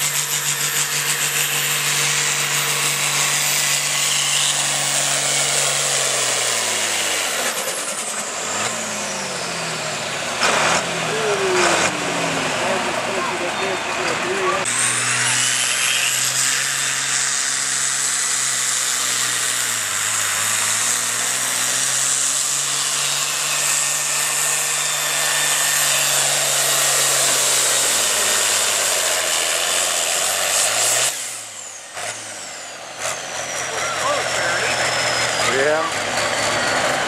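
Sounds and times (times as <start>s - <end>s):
tractor diesel engine under load: 0.0s - 37.0s.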